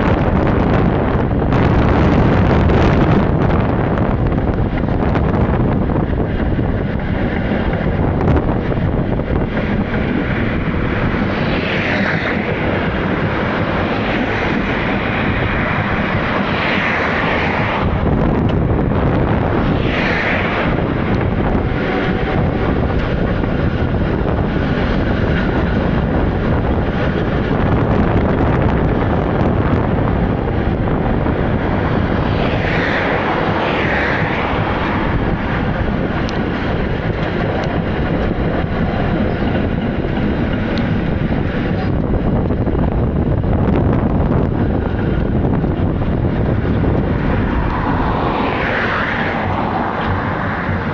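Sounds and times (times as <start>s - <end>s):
tram wheels rumbling on rails: 0.0s - 50.9s.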